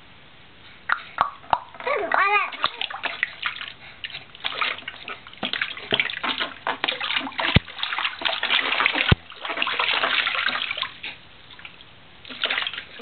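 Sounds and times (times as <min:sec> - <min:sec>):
bathwater splashing: 0:01.8 - 0:13.0.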